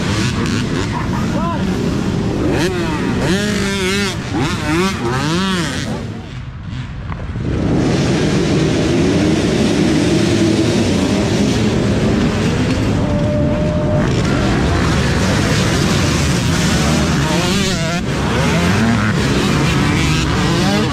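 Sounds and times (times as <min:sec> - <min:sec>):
dirt bike engines at full throttle: 0:00.0 - 0:20.9.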